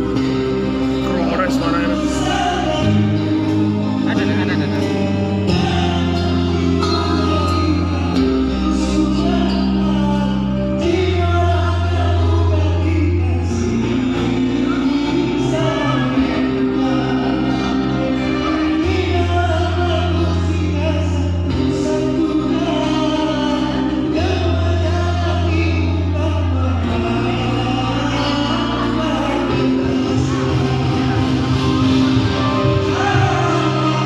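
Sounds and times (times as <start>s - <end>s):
bass notes and chords: 0.0s - 34.0s.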